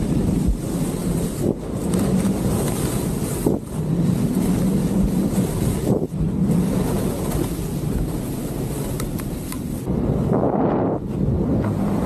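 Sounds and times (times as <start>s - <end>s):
skis running over snow: 0.0s - 12.0s
wind rush on microphone: 0.0s - 12.0s.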